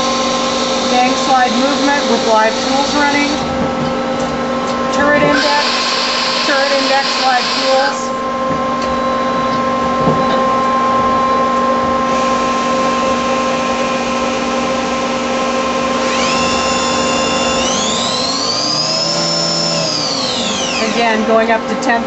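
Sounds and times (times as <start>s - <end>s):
lathe machine whine: 0.0s - 21.8s.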